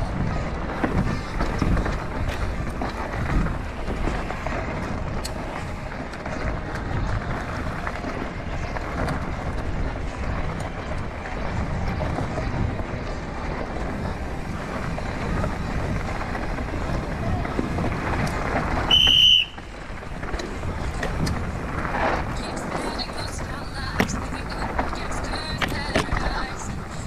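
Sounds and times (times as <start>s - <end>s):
bike clicks and rattles: 0.0s - 27.0s
bike tyres rolling over dirt: 0.0s - 27.0s.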